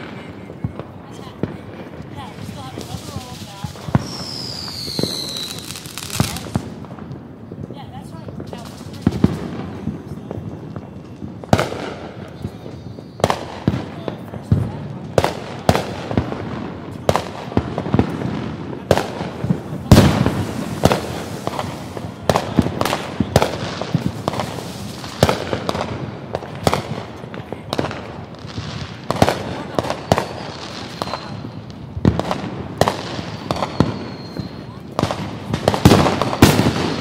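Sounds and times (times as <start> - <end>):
fireworks bangs and pops: 0.0 - 37.0.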